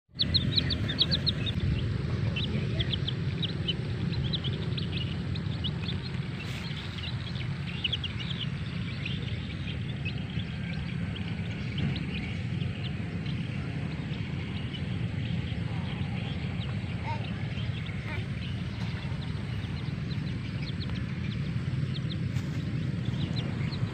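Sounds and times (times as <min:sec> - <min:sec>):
baby chicks peeping: 0:00.1 - 0:23.9
steady low rumble: 0:00.1 - 0:23.9.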